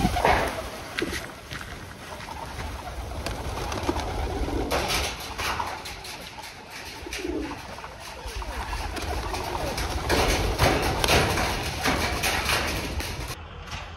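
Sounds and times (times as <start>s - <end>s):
pigeons cooing: 0.0s - 1.1s, 1.9s - 13.4s.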